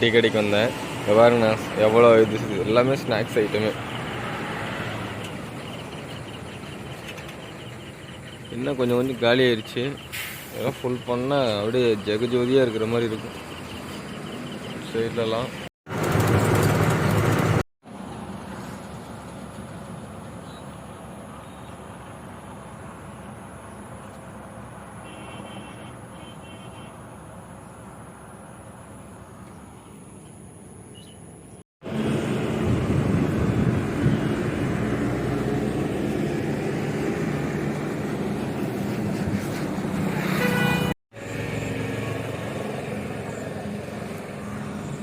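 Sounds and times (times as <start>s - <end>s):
lorry engine hum: 0.0s - 25.0s, 27.0s - 45.0s
road noise: 0.0s - 45.0s.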